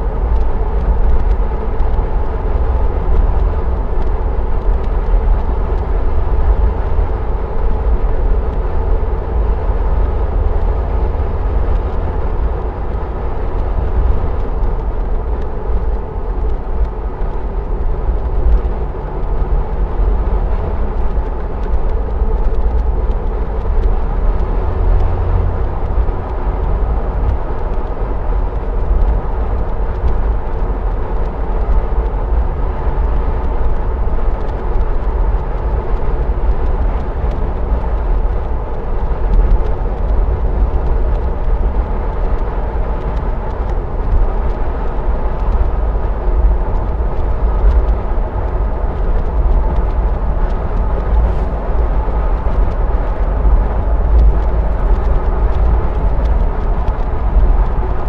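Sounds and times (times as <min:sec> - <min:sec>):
tyre and road noise: 0:00.0 - 0:58.0.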